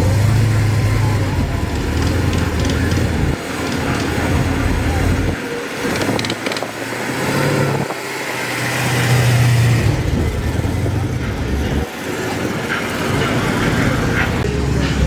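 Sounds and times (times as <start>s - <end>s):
people talking: 0.0s - 7.9s, 9.8s - 15.0s
car engine revving: 0.0s - 15.0s.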